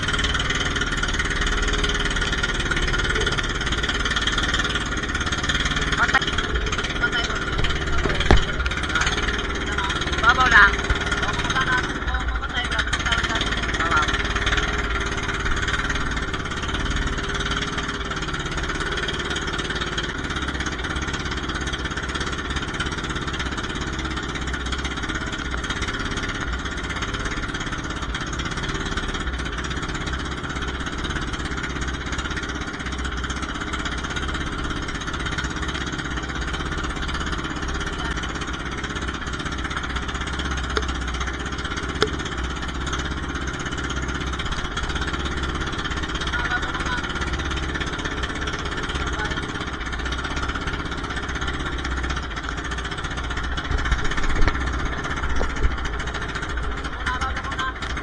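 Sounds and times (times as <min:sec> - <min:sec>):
boat engine chugging: 0:00.0 - 0:58.0.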